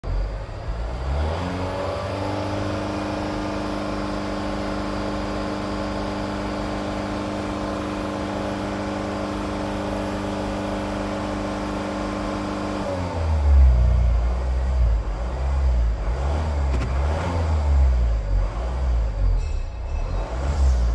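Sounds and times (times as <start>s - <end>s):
engine revving: 0.1s - 20.9s.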